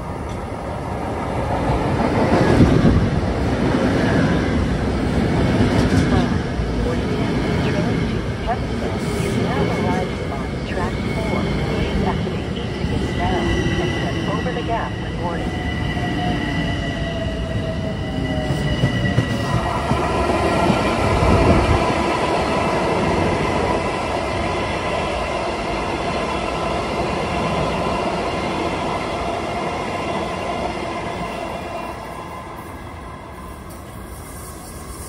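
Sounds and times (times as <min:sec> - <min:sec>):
high whines of train: 0:00.0 - 0:35.0.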